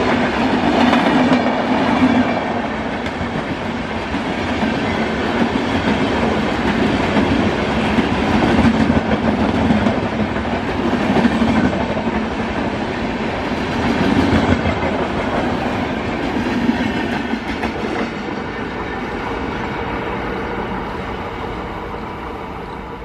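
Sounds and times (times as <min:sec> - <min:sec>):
train coaches rolling past: 0:00.0 - 0:23.0.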